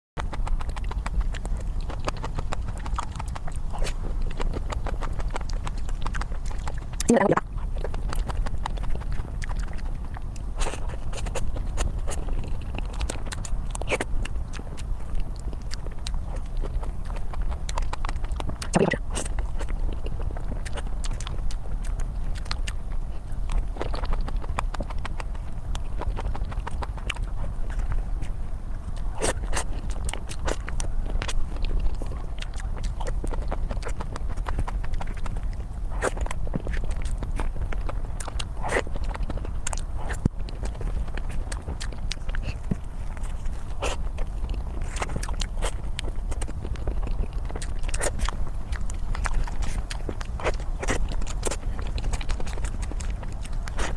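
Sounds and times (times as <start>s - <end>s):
steady low hum: 0.2s - 53.9s
wet smacking and chewing: 0.2s - 53.9s.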